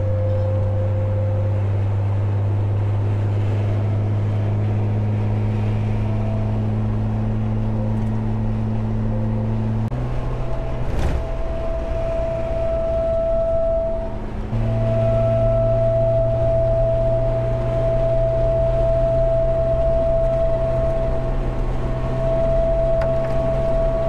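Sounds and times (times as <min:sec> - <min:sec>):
light bar humming and whistling: 0:00.0 - 0:24.0
road noise inside car: 0:00.0 - 0:24.0.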